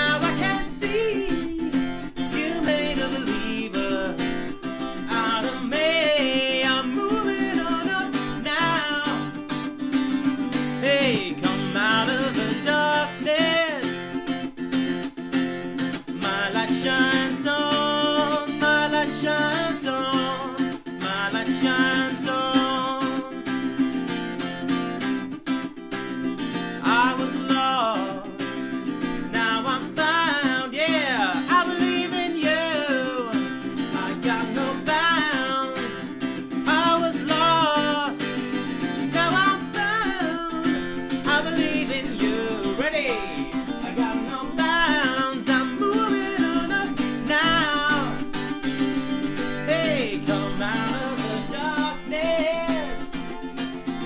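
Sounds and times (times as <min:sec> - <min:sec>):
man singing: 0:00.0 - 0:14.5, 0:15.8 - 0:24.2, 0:26.3 - 0:54.0
guitar strumming chords: 0:00.0 - 0:54.0.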